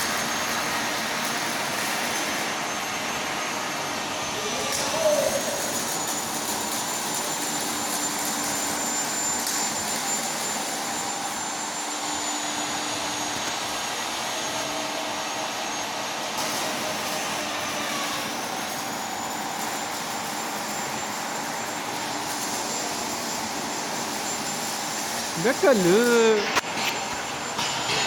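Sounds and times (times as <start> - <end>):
welding arc crackling hiss: 0.0 - 15.5, 16.3 - 27.4
thin high whine: 0.0 - 28.0.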